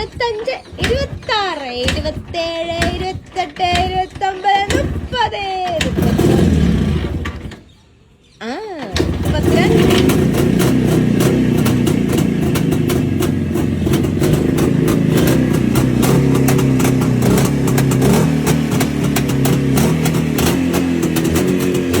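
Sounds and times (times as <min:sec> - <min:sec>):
motorcycle engine running: 0:00.0 - 0:07.9, 0:08.9 - 0:22.0.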